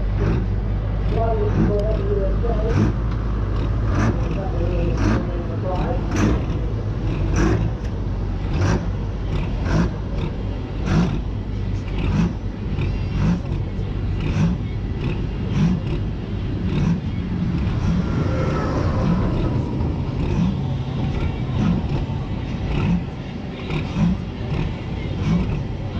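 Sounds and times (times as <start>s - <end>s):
tractor engine rumbling: 0.0s - 25.9s.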